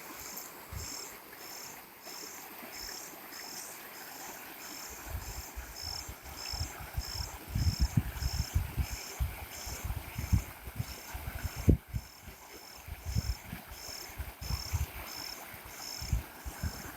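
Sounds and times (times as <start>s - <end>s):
faint hiss: 0.0s - 16.9s
insect chirping: 0.0s - 16.9s.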